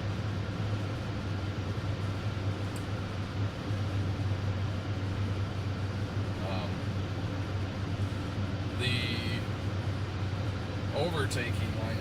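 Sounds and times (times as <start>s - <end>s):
car road and engine hum: 0.0s - 12.0s.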